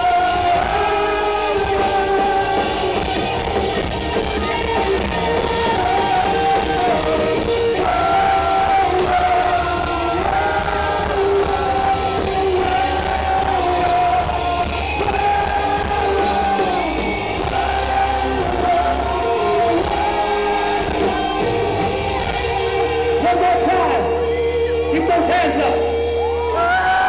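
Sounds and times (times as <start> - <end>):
live rock band playing: 0.0 - 27.0
singer holding long notes: 0.0 - 27.0.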